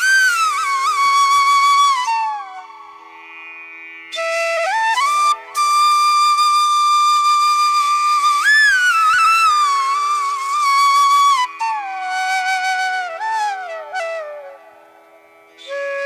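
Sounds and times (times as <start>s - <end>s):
flute playing slow melody: 0.0s - 3.0s, 4.1s - 16.0s.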